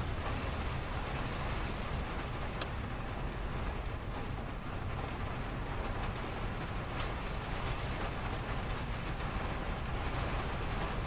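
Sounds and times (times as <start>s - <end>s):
freeway traffic rumble: 0.0s - 11.0s
rain on a window: 0.0s - 11.0s.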